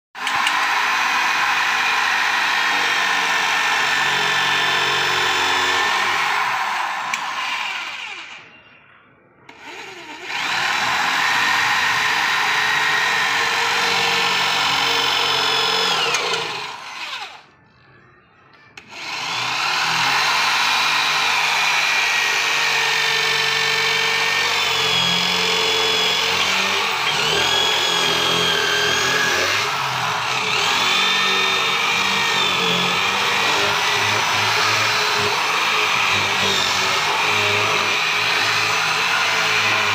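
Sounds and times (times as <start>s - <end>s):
electric drill cutting wood: 0.2s - 8.5s, 9.5s - 17.5s, 18.8s - 39.9s.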